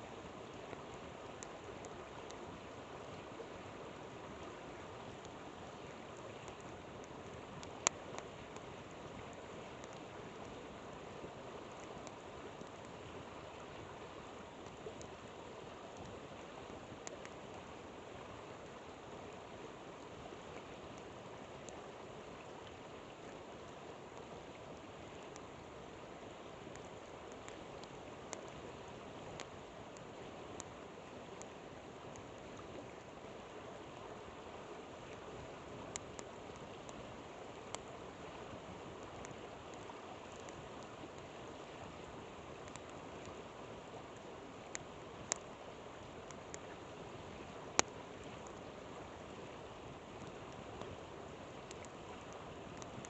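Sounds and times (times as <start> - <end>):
campfire crackling: 0.1 - 53.0.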